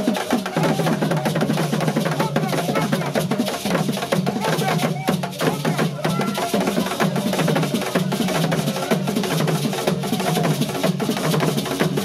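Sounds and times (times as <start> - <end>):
drumming music: 0.0 - 12.0.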